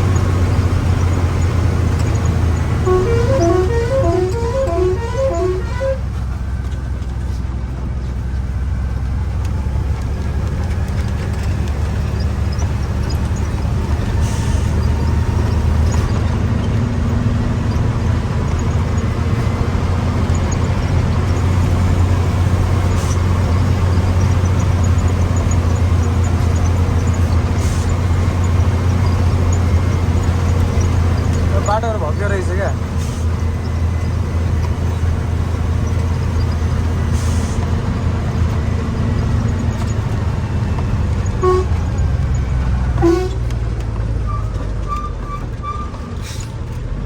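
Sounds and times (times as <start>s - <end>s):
truck diesel engine running: 0.0s - 47.0s.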